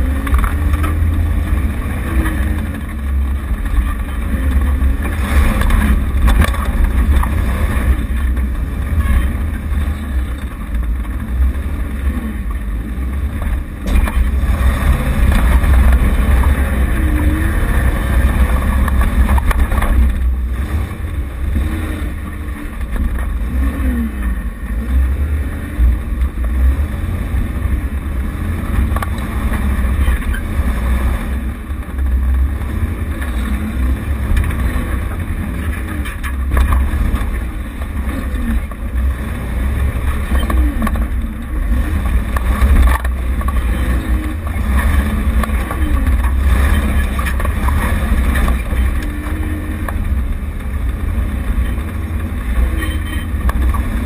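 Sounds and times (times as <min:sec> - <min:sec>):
heavy low rumble: 0:00.0 - 0:54.0
off-road vehicle engine running: 0:00.0 - 0:54.0.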